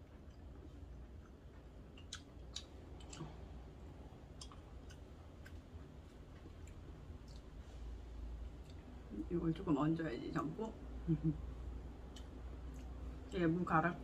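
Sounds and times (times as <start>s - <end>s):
soft chewing: 0.0s - 13.5s.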